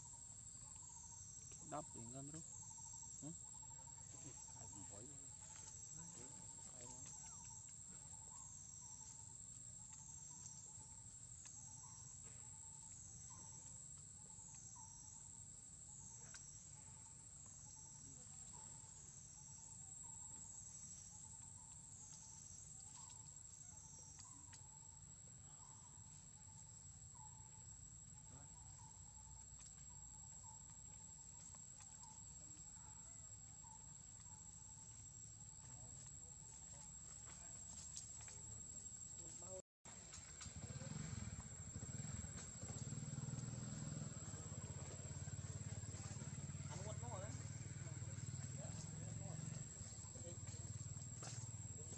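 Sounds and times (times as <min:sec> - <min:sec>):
insects buzzing and trilling: 0:00.0 - 0:51.9.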